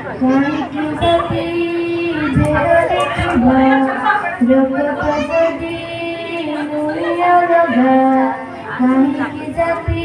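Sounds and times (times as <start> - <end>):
girl singing into a microphone: 0.0 - 10.0.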